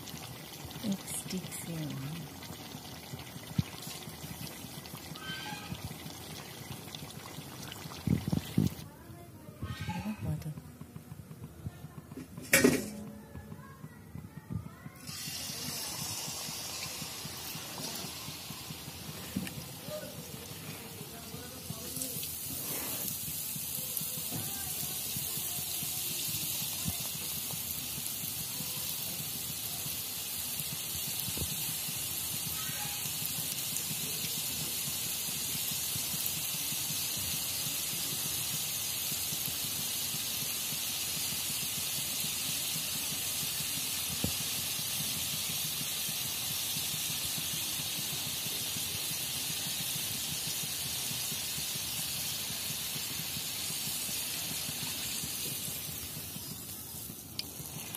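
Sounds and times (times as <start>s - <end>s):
batter deep-frying in oil: 0.0s - 57.9s.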